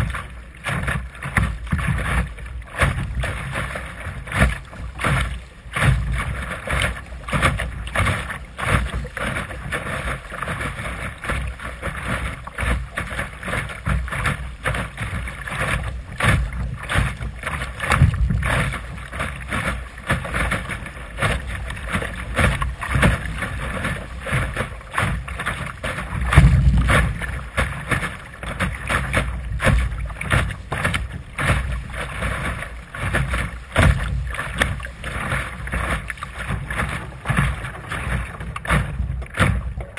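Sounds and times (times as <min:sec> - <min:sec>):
water slapping against boat hull: 0:00.0 - 0:39.9
wind rumbling on microphone: 0:00.0 - 0:39.9.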